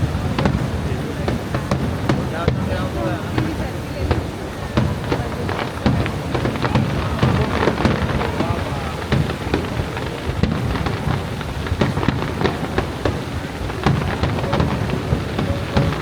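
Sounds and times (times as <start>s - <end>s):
fireworks bangs and crackles: 0.0s - 16.0s
waterfall roaring: 0.0s - 16.0s.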